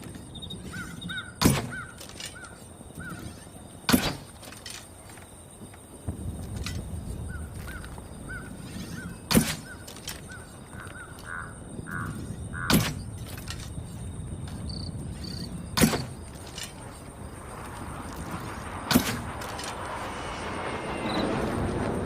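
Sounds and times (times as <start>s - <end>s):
steady outdoor rumble: 0.0s - 22.0s.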